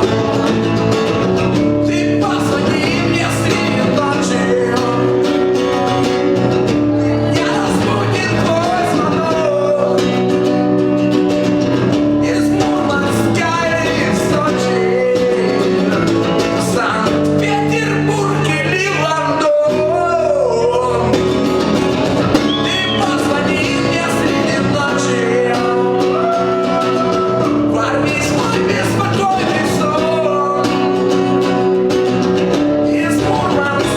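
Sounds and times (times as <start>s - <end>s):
man singing: 0.0s - 33.9s
strummed acoustic guitar: 0.0s - 33.9s.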